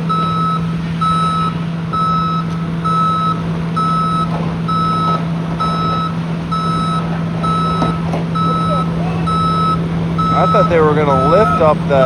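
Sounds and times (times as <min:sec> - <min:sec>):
low engine hum: 0:00.0 - 0:12.0
reversing alarm beeping: 0:00.0 - 0:12.0.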